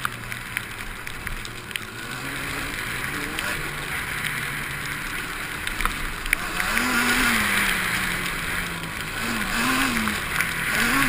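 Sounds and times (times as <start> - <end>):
quad bike engine running: 0.0 - 11.0
wind and tyre noise: 0.0 - 11.0.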